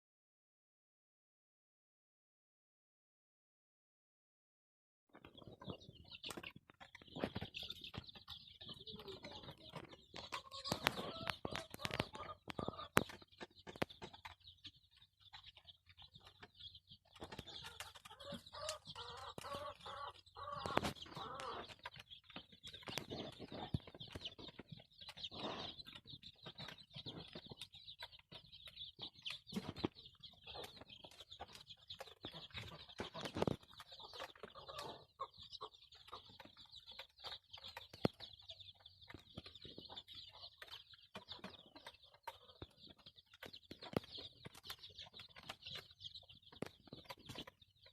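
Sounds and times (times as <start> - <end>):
chickens clucking: 5.1 - 47.9.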